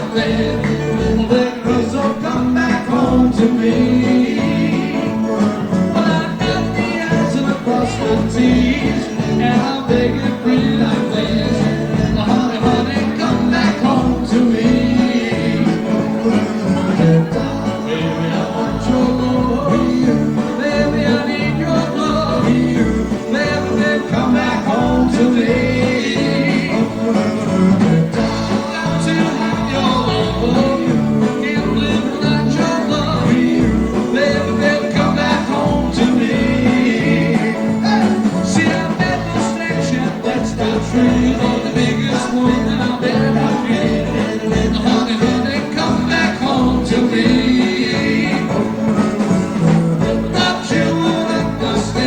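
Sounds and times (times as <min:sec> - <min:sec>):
doo-wop band playing: 0:00.0 - 0:52.0
guitar: 0:00.0 - 0:52.0
person singing: 0:00.0 - 0:52.0
pulsing bass line: 0:00.0 - 0:52.0.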